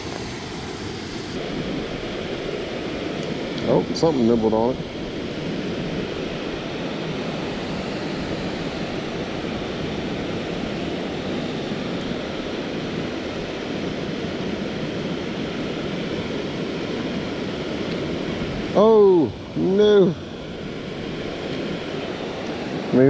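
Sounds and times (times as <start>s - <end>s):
river water over waterfall: 0.0s - 23.0s.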